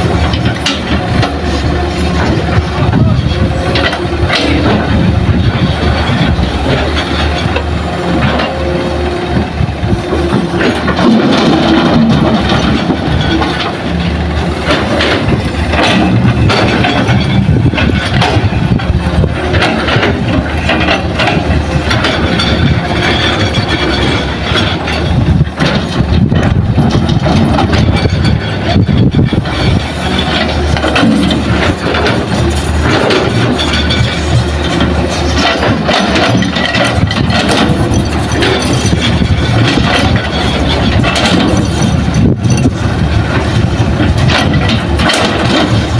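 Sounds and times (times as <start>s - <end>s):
excavator diesel engine: 0.0s - 45.9s
knocks and clatter: 0.0s - 45.9s.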